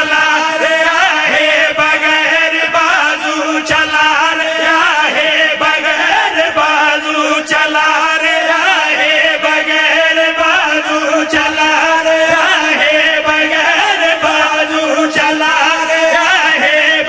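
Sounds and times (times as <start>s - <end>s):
man chanting over loudspeaker: 0.0s - 17.0s.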